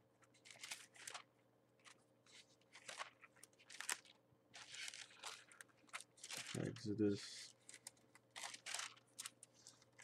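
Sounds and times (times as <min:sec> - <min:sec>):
paper pages rustling: 0:00.2 - 0:10.0.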